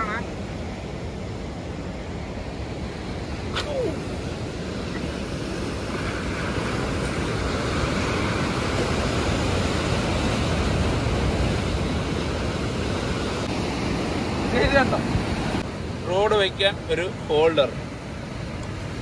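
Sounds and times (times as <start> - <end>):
sea surf rushing: 0.0 - 19.0.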